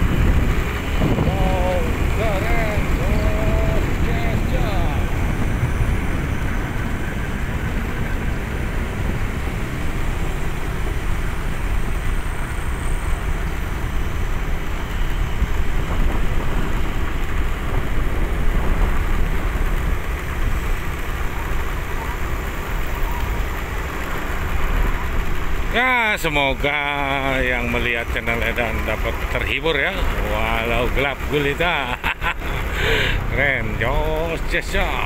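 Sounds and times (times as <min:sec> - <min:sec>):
vehicle wind and road noise: 0:00.0 - 0:35.0.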